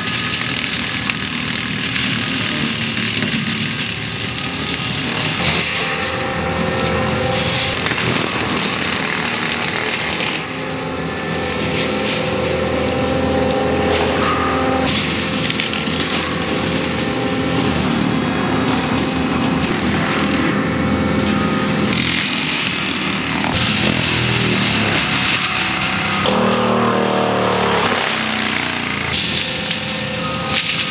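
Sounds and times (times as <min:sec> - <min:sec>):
loader engine under load: 0:00.0 - 0:30.9
mulching head grinding wood: 0:00.0 - 0:30.9.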